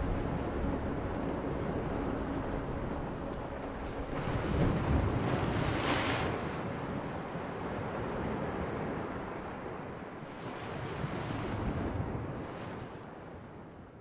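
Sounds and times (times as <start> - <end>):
sea waves washing: 0.0 - 13.3
wind: 0.0 - 14.0.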